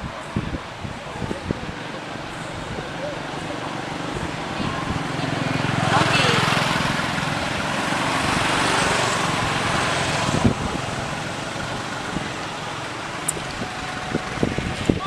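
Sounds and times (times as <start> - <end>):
motor vehicle running: 0.0 - 15.0.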